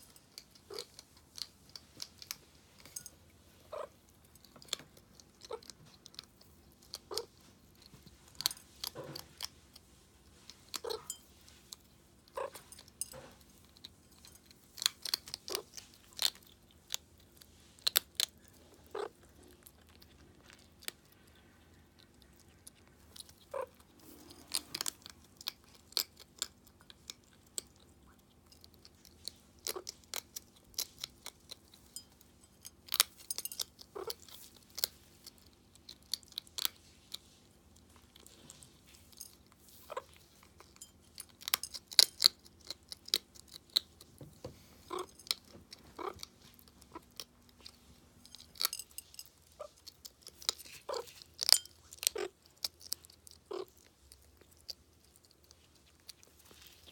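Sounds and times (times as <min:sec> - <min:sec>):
animal crunching food pellets: 0:00.0 - 0:56.9.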